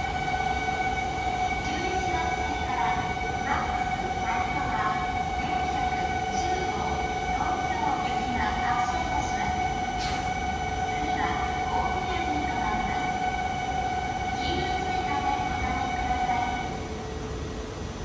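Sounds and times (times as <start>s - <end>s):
train high-pitched hum: 0.0s - 18.0s.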